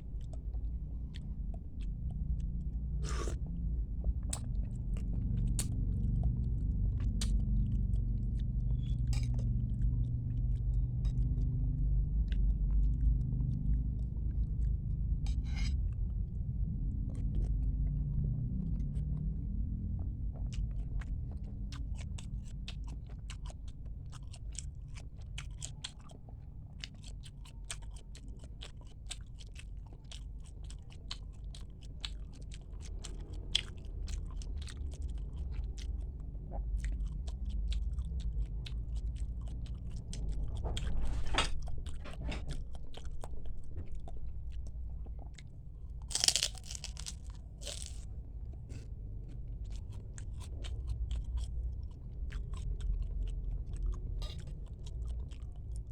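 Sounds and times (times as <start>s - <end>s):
person chewing and eating: 0.0s - 55.9s
steady low hum: 0.0s - 55.9s.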